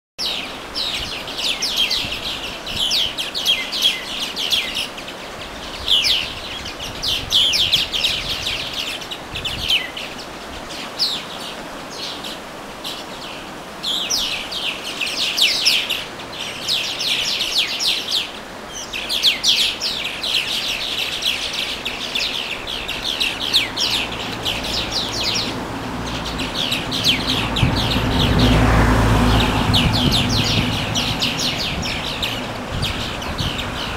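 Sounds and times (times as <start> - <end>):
songbirds singing: 0.2 - 33.9.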